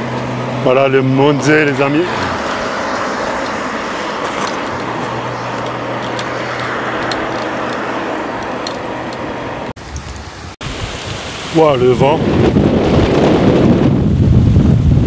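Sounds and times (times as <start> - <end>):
strong wind on microphone: 1.2 - 15.0.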